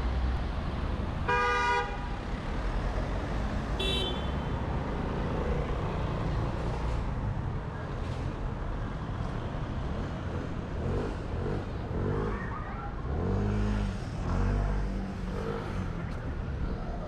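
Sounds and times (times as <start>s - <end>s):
car engines passing: 0.0s - 17.0s.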